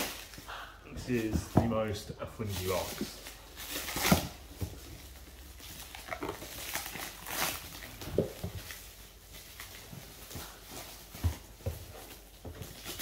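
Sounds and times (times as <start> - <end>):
plastic ripping: 0.0 - 0.5, 2.4 - 13.0
plastic wrapping crinkling: 0.0 - 13.0.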